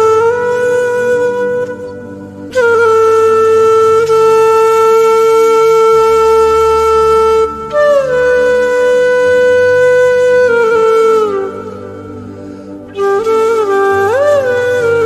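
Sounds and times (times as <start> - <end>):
flute-like wind instrument: 0.0 - 15.0.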